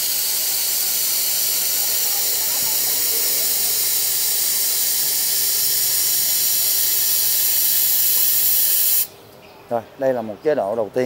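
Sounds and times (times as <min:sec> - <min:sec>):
laser welding hiss: 0:00.0 - 0:09.1.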